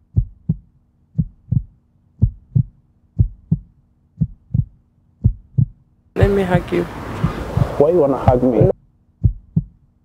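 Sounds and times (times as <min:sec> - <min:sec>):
heartbeat thumps: 0:00.0 - 0:09.9.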